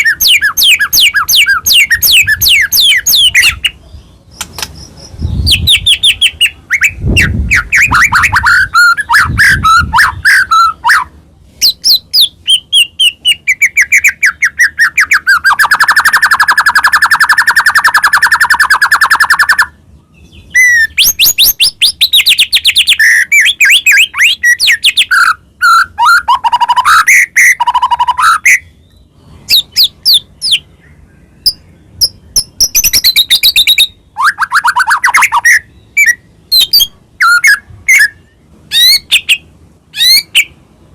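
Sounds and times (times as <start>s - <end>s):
bird singing trills and whistles: 0.0s - 40.6s.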